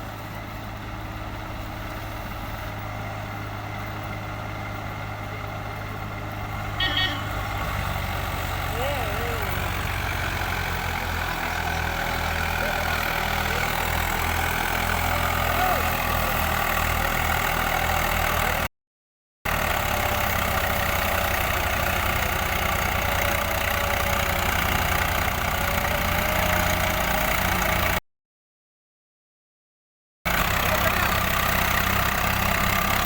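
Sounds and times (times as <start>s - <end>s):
tractor diesel engine running: 0.0s - 18.7s, 19.5s - 28.0s, 30.3s - 33.0s.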